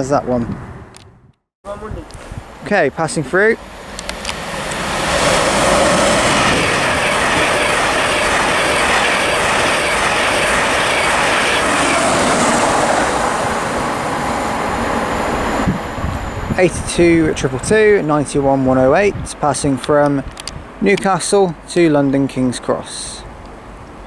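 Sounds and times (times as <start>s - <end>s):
express train passing at speed: 2.4s - 24.0s.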